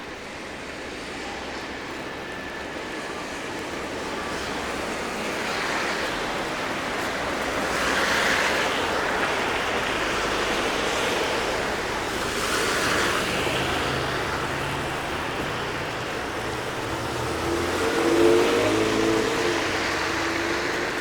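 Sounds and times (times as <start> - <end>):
low traffic rumble: 0.0 - 21.0
tyres hissing on wet road: 0.0 - 21.0.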